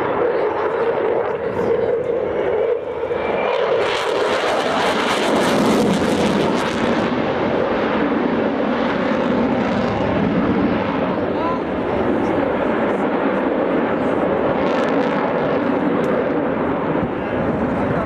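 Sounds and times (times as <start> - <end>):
jet fighter engines roaring: 0.0 - 18.0.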